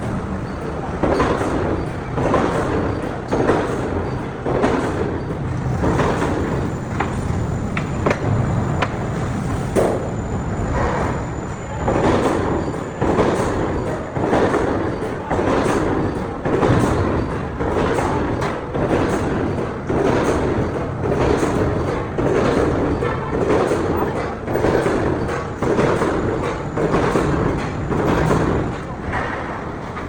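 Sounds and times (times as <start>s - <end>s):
workshop machinery rumble: 0.0s - 30.0s.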